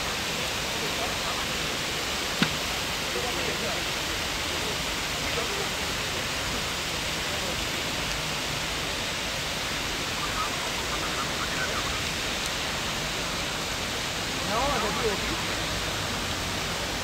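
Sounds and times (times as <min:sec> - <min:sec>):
faint voices: 0:00.0 - 0:13.3, 0:13.9 - 0:17.0
fountain spray rushing and splashing: 0:00.0 - 0:17.0.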